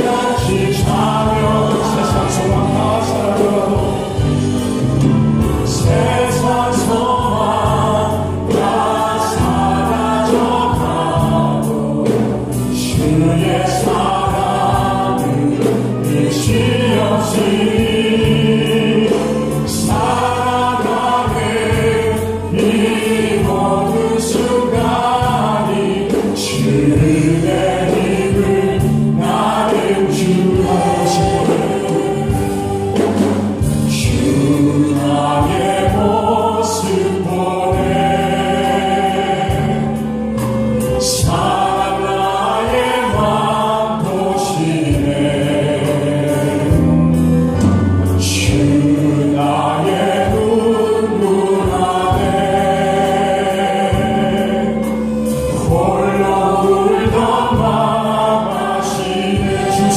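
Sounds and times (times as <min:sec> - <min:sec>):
amplified group singing: 0:00.0 - 0:59.9.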